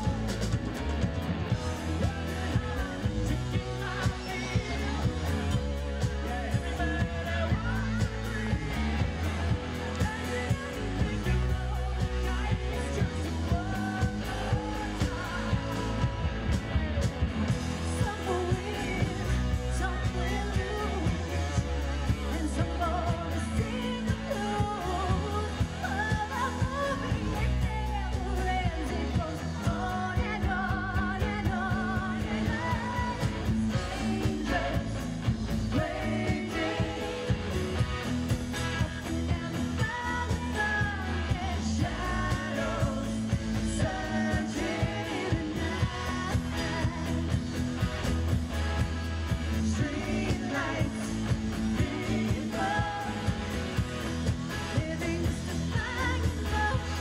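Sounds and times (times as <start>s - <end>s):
woman singing lead: 0.0s - 0.8s, 1.5s - 57.0s
live rock band playing: 0.0s - 57.0s.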